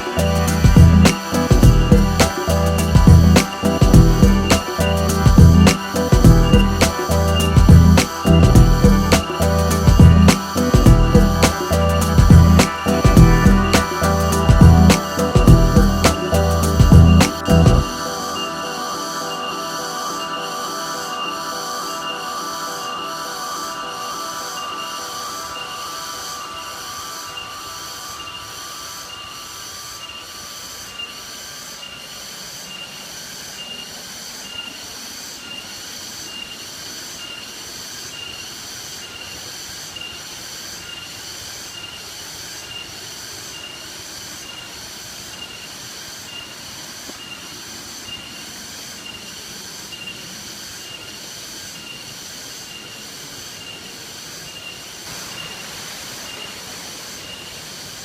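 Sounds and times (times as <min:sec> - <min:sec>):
pulsing insect drone: 0:00.0 - 0:58.0
waterfall rushing: 0:00.0 - 0:58.0.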